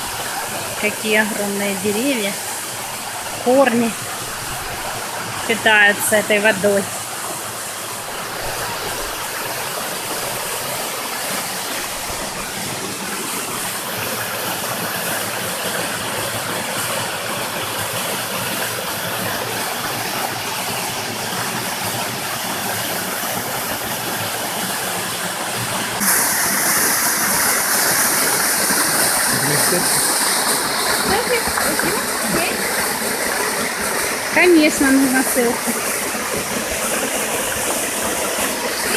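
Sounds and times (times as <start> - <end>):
rushing stream and waterfall: 0.0 - 38.9.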